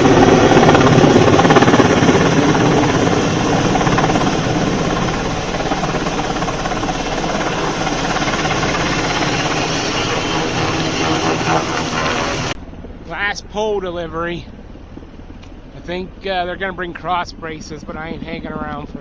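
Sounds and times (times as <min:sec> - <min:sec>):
helicopter rotor and turbine: 0:00.0 - 0:19.0.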